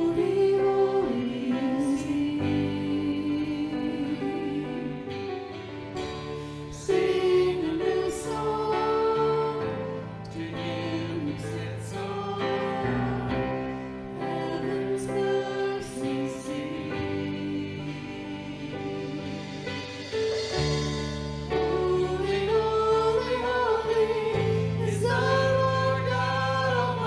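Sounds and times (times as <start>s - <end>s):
instrumental accompaniment: 0.0s - 27.0s
voices singing a slow hymn: 0.0s - 27.0s.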